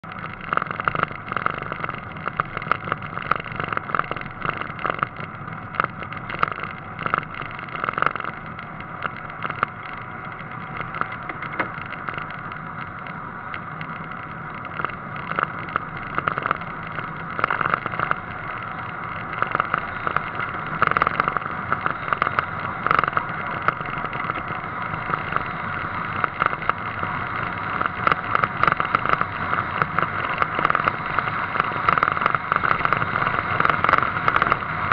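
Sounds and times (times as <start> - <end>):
car engine and road noise: 0.0 - 34.9
short crackles and knocks: 0.0 - 34.9.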